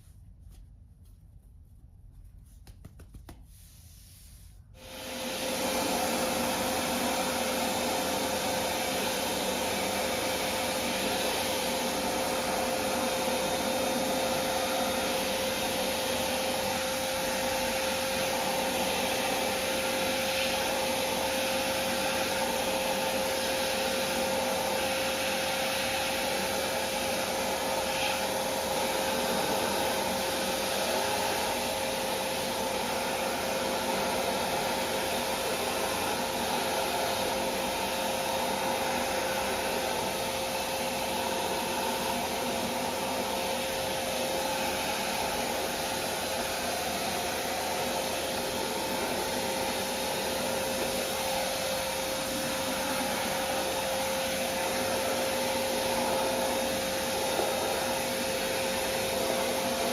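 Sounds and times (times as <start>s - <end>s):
vacuum cleaner running: 3.5s - 59.9s.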